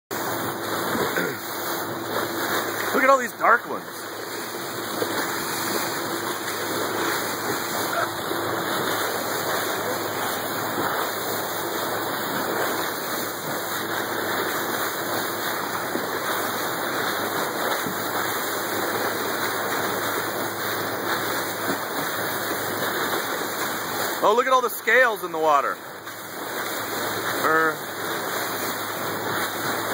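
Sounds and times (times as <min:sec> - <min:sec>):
water rushing along boat hull: 0:00.1 - 0:29.9.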